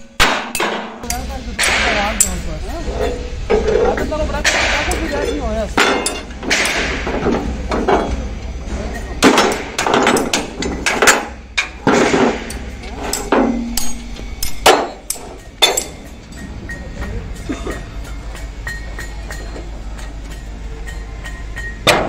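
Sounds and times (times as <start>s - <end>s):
hammer on steel clanks: 0.0s - 22.0s.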